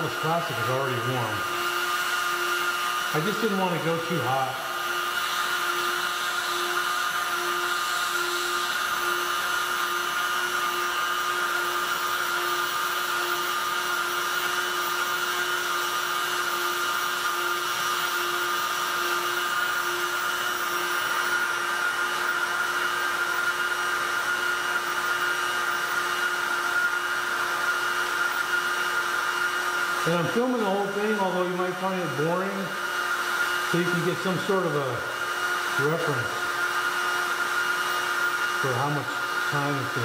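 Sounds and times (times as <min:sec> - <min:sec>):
heat gun fan humming and whining: 0:00.0 - 0:40.0.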